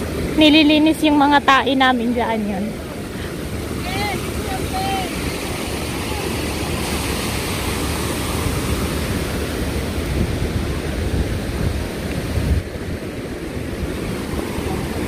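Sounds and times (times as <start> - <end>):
water rushing over a weir: 0.0 - 15.0
wind buffeting microphone: 0.0 - 15.0.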